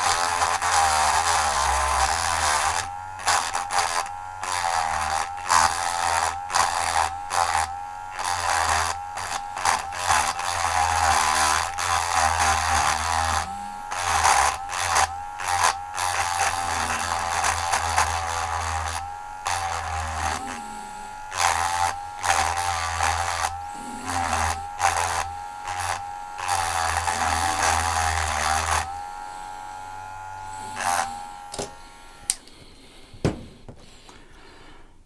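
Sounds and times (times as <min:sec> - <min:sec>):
rotary tool grinding metal: 0:00.0 - 0:34.6.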